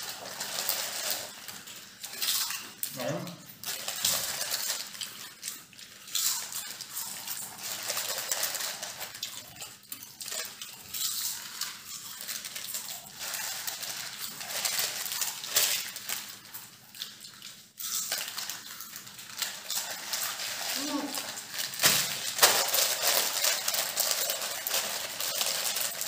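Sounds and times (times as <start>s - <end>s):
foil packets crinkling: 0.0s - 26.0s
chips being crunched: 3.6s - 16.5s, 17.8s - 26.0s.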